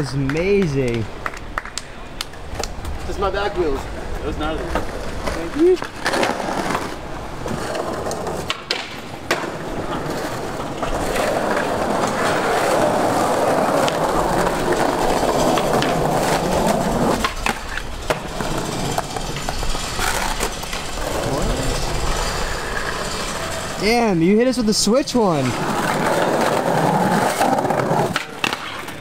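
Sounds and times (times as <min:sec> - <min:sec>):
skateboard clacking on ground: 0:00.0 - 0:03.1, 0:04.1 - 0:24.0, 0:25.3 - 0:29.0
skateboard wheels rolling on concrete: 0:00.0 - 0:29.0.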